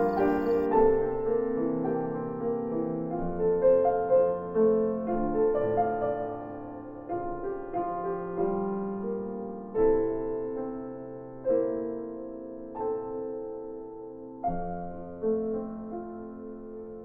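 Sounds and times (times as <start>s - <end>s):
slow gentle piano chords: 0.0s - 17.0s.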